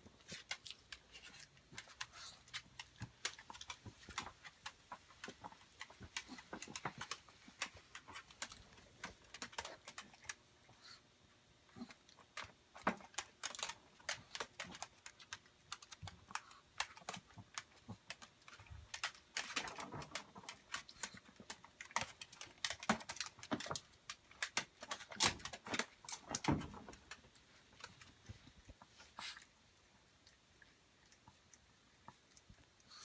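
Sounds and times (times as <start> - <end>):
dog crunching food: 0.2 - 10.8, 11.7 - 28.5.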